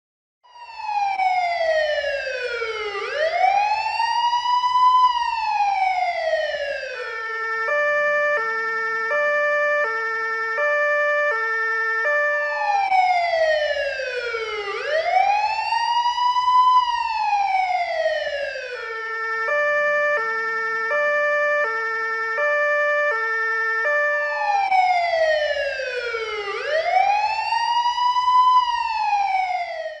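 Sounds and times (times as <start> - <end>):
police siren wailing: 0.4 - 30.0.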